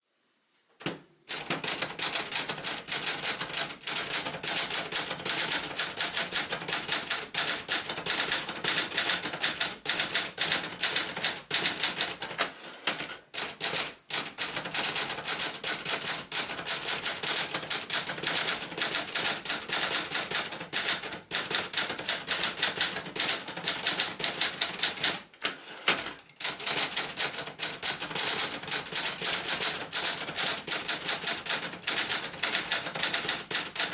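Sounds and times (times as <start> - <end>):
typewriter keys striking: 0.8 - 25.3, 25.9 - 33.9.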